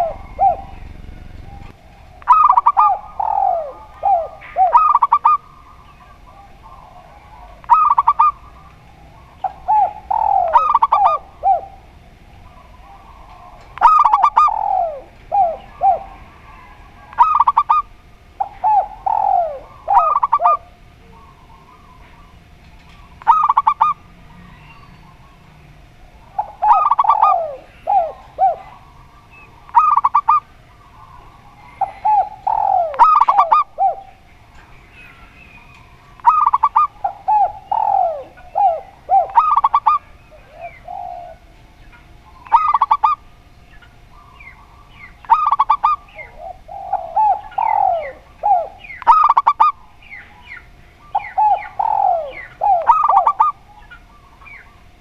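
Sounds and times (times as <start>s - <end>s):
doves cooing: 0.0s - 55.0s
faint steady hum: 0.0s - 55.0s.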